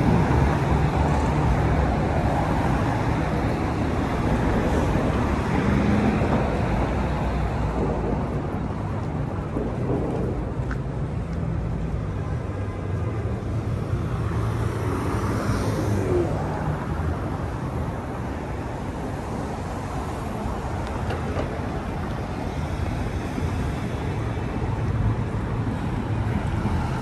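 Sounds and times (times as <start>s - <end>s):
rumble of passing vehicles: 0.0s - 27.0s.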